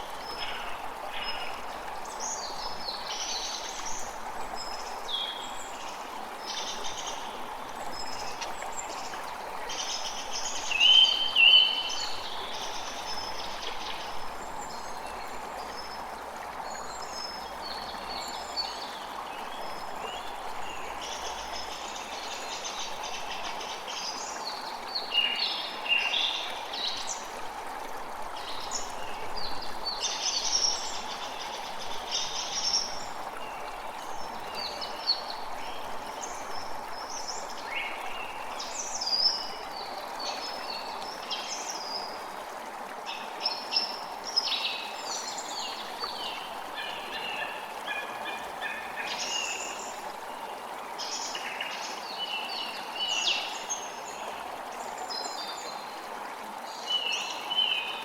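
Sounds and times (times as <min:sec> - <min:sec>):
creek running: 0:00.0 - 0:58.0.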